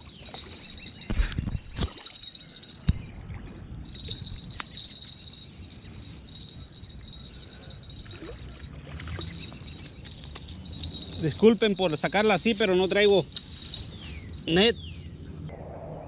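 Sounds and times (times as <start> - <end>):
light rattling and handling: 0.0 - 3.1, 3.8 - 14.6.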